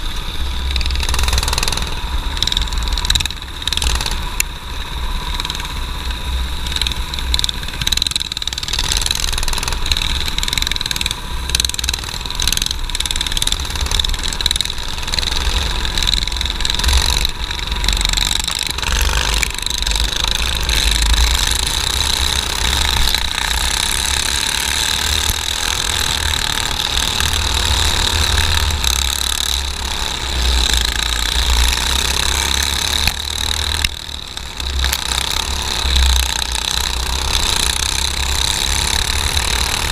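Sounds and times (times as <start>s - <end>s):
kart engines running hard: 0.0s - 39.9s.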